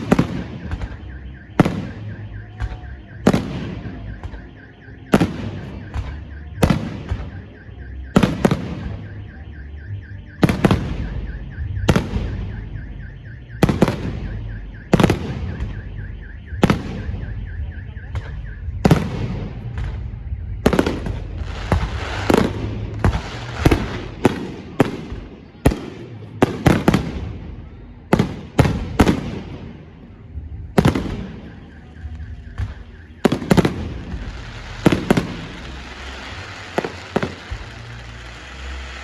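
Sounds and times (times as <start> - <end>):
car alarm warbling: 0.0 - 39.0.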